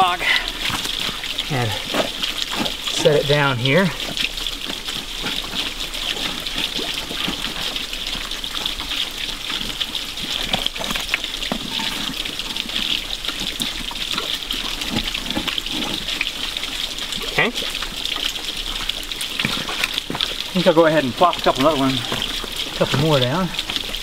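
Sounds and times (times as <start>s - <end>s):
creek water trickling: 0.0s - 24.0s.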